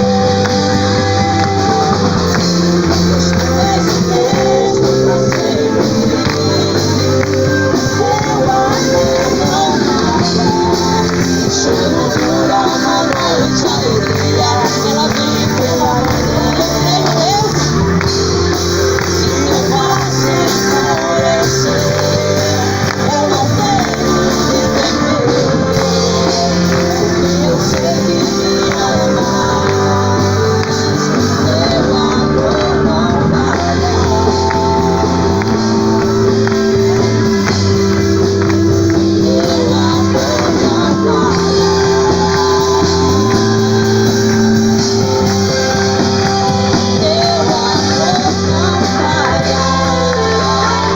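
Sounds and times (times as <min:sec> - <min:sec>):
band playing worship music: 0:00.0 - 0:50.9
voices singing: 0:00.0 - 0:50.9.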